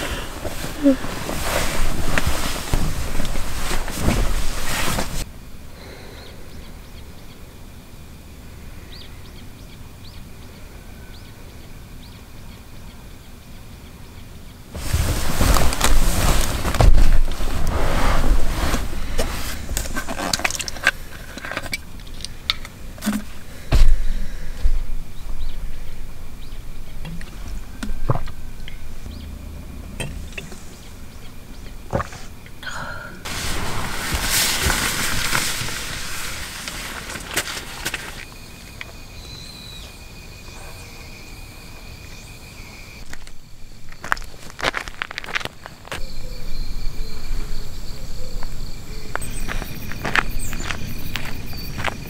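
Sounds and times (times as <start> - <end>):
low rumble of background noise: 0.0 - 52.0
small birds chirping: 5.8 - 17.6, 18.6 - 33.0, 33.7 - 52.0.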